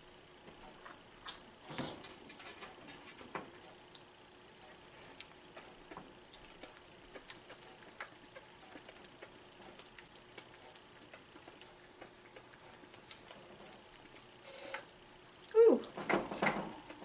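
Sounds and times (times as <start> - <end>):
quiet steady hum: 0.0 - 17.0.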